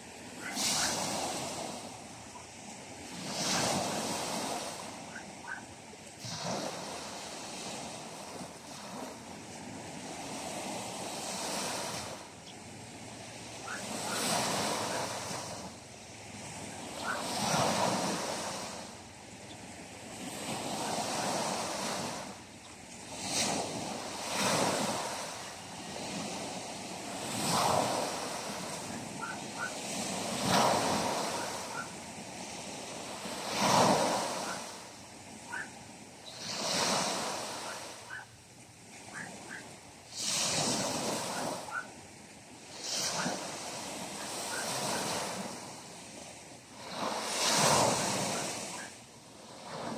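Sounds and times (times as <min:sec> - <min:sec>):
sea waves washing onto shore: 0:00.0 - 0:49.9.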